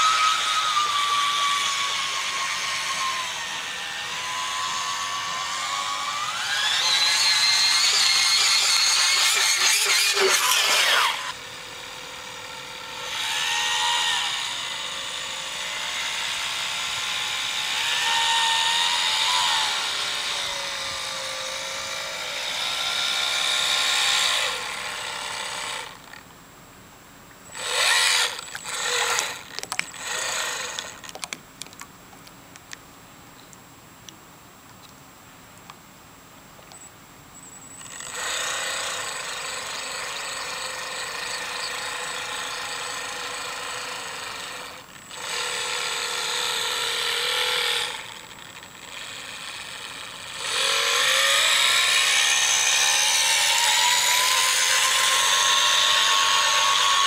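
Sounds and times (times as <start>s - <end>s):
electric boat motor whining: 0.0s - 26.2s, 27.5s - 31.3s, 37.8s - 57.0s.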